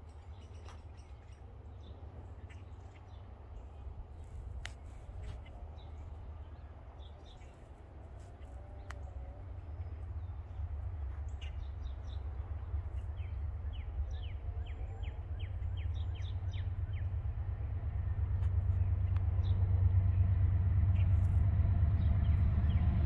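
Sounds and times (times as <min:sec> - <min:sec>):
freight train rumble: 0:00.0 - 0:23.0
songbirds chirping: 0:00.0 - 0:23.0.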